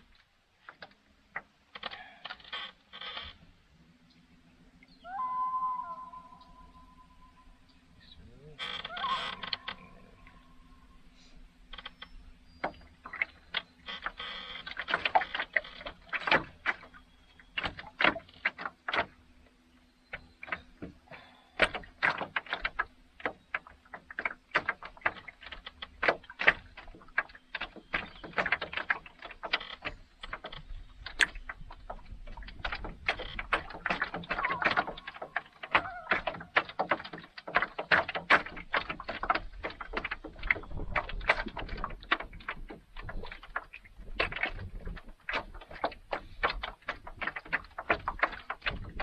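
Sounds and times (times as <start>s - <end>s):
clicks and light knocks: 0.0s - 3.5s, 11.7s - 49.0s.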